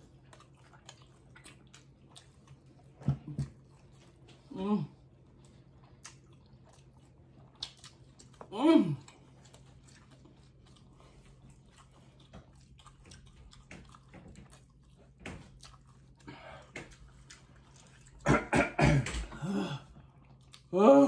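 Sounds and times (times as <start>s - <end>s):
people chewing: 0.0s - 20.8s
low steady hum: 0.0s - 21.0s.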